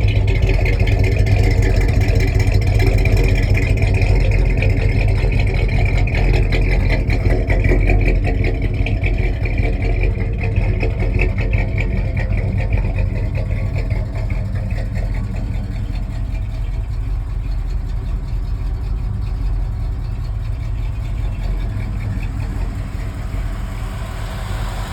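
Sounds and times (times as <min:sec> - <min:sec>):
v-eight engine running: 0:00.0 - 0:24.9.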